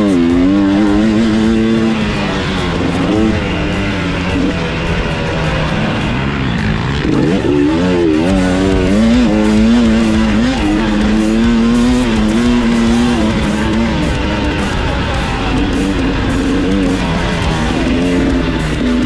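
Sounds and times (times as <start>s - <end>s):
dirt bike engine revving: 0.0s - 19.0s
music: 0.0s - 19.0s.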